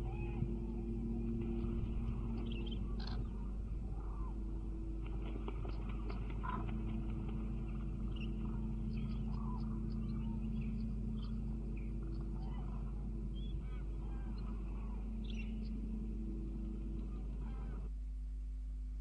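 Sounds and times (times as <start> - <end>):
cranes calling: 0.0 - 17.9
steady low hum: 0.0 - 19.0.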